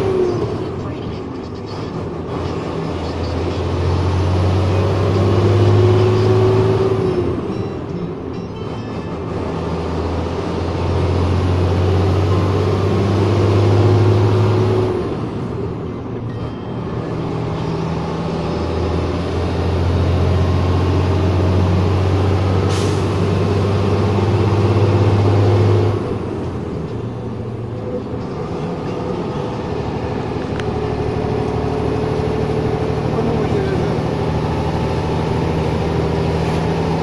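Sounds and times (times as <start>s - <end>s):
diesel truck engine droning: 0.0s - 37.0s.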